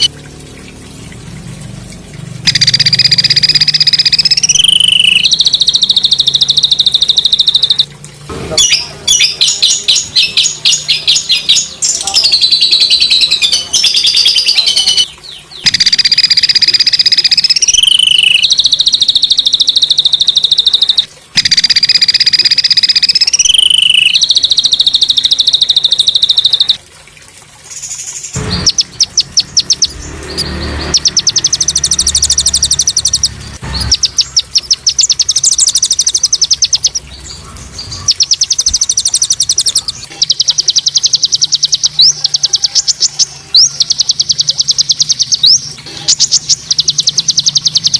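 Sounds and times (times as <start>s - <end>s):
songbird singing harsh trills: 2.5s - 7.9s, 8.6s - 26.8s, 28.6s - 47.9s.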